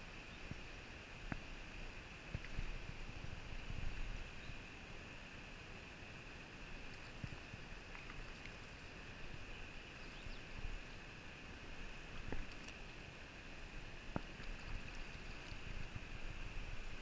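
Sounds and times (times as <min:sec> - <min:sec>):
flowing river water: 0:00.0 - 0:17.0.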